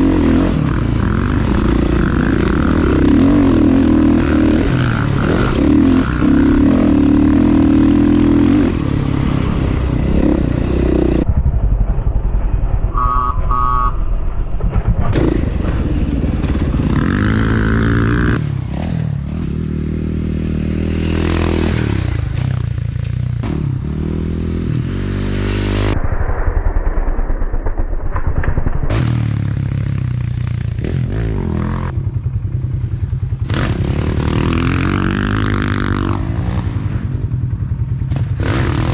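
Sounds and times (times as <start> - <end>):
dirt bike engine revving: 0.0 - 11.3, 15.1 - 26.0, 28.9 - 38.9.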